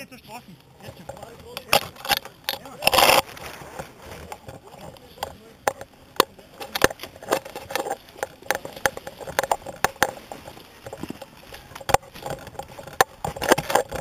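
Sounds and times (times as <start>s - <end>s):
gear rattling: 0.8s - 14.0s.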